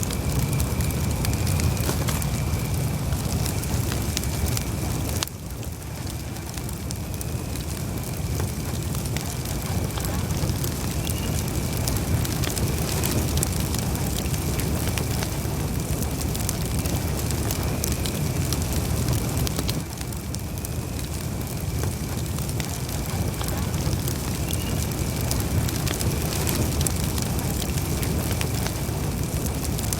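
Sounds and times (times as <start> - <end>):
low rumble of flames: 0.0 - 29.9
wood crackling and popping: 0.0 - 29.9.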